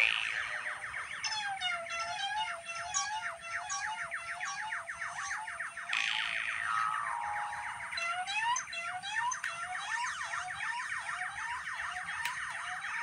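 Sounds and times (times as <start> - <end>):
electronic warbling sweeping tones: 0.0 - 13.0.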